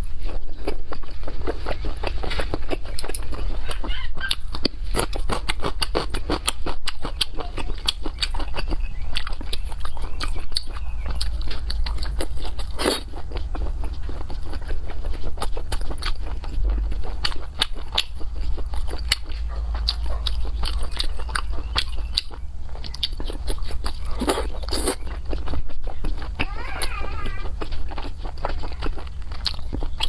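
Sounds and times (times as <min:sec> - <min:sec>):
close chewing and mouth clicks: 0:00.0 - 0:30.0
low hum: 0:00.0 - 0:30.0.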